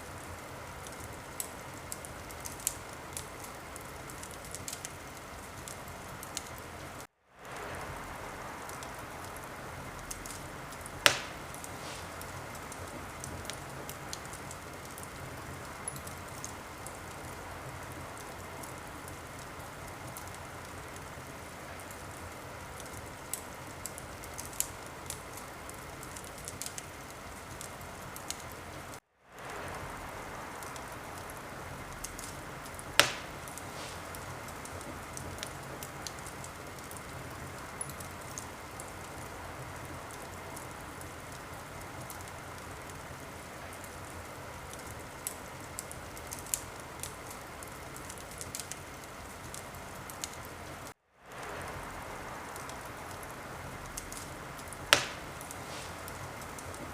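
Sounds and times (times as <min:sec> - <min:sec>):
fire crackling and hissing: 0:00.0 - 0:56.9
fire popping: 0:00.0 - 0:56.9.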